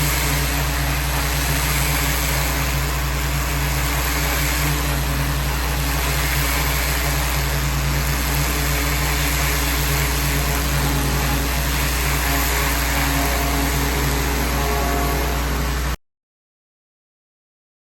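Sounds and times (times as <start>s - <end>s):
pressure washer motor hum: 0.0s - 16.0s.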